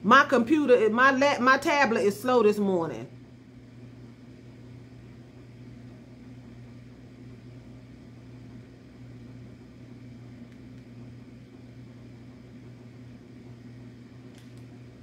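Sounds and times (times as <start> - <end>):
low electrical motor hum: 0.0 - 15.0.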